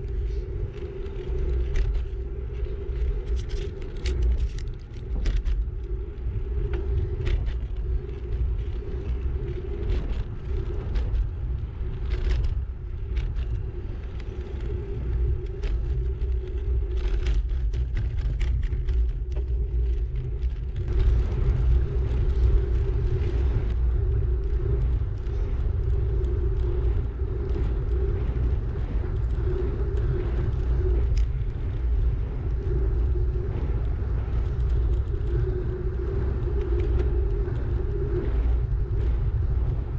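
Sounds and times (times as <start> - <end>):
steady hum: 0.0 - 39.9
wind buffeting microphone: 0.0 - 39.9.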